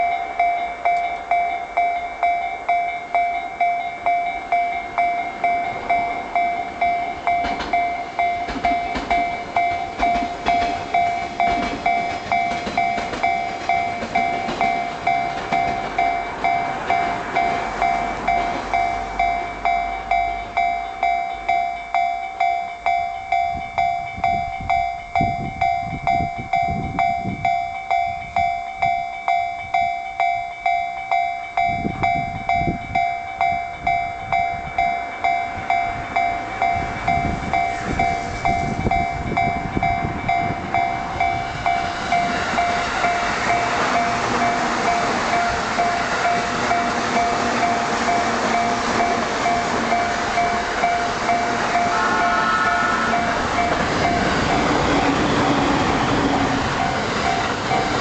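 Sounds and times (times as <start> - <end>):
level crossing bell ringing: 0.0 - 54.7
train wheels clicking over rail joints: 0.0 - 58.0.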